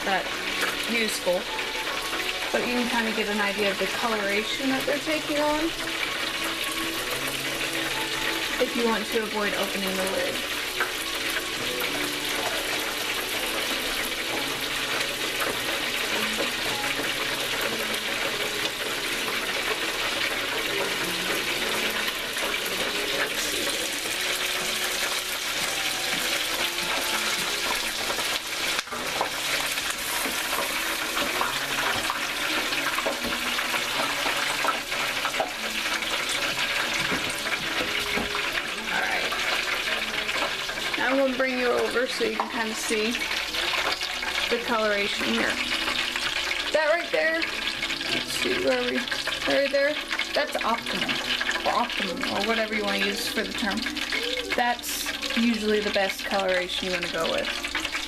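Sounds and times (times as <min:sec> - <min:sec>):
oil bubbling and sizzling: 0:00.0 - 0:58.0.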